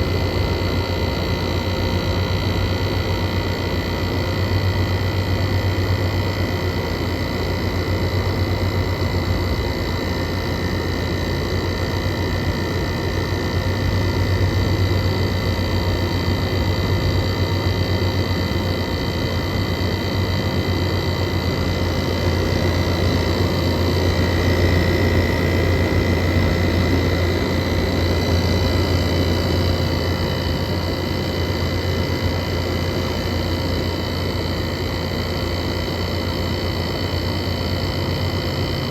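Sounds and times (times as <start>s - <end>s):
air conditioner compressor hum: 0.0s - 38.9s.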